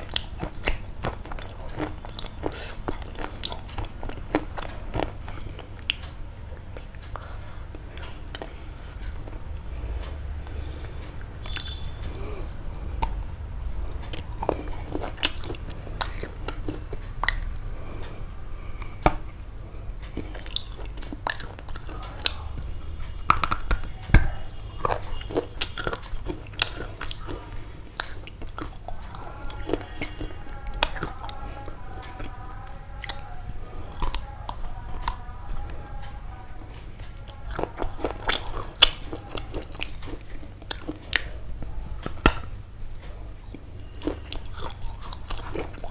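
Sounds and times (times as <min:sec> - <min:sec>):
crunching and chewing food: 0:00.0 - 0:45.9.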